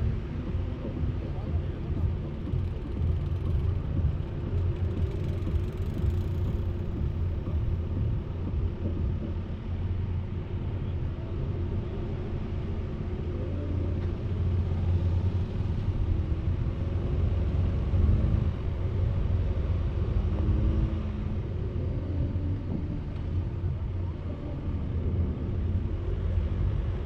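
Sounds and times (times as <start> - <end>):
road noise: 0.0 - 27.0
vehicle engine hum: 0.0 - 27.0.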